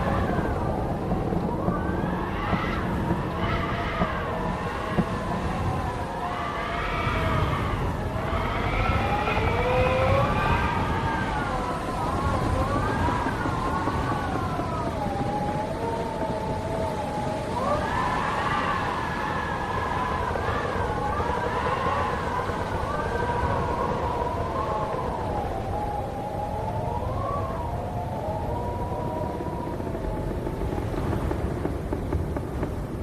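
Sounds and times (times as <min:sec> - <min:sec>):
howling wind: 0:00.0 - 0:33.0.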